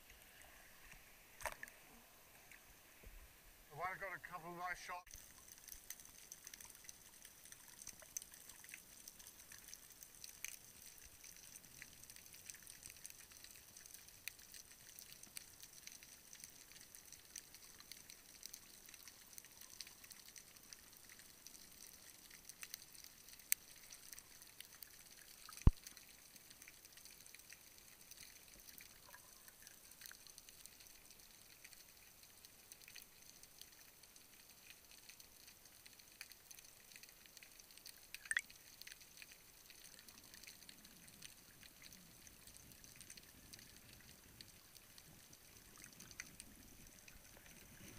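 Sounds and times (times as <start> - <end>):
underwater crackle of tiny clicks: 0.0 - 3.3, 5.1 - 47.9
sharp underwater clicks: 0.9 - 1.8, 5.1 - 47.9.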